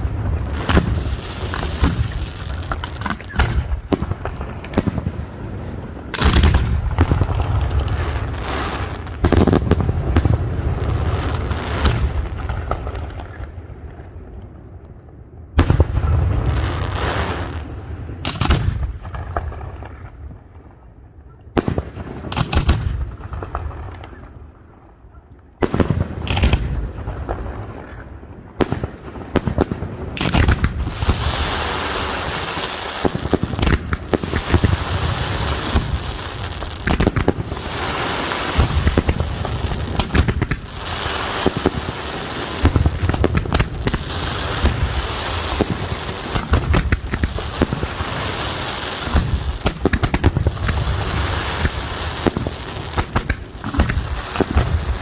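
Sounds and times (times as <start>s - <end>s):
fireworks barrage crackling: 0.0s - 14.6s, 15.5s - 20.9s, 21.5s - 25.0s, 25.6s - 55.0s.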